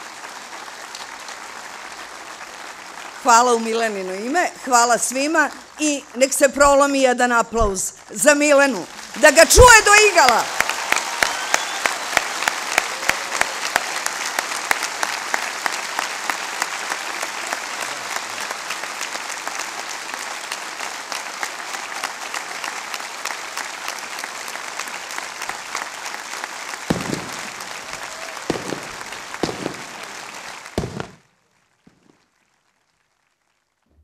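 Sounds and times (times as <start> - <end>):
audience applauding: 0.0 - 7.0, 8.0 - 33.9.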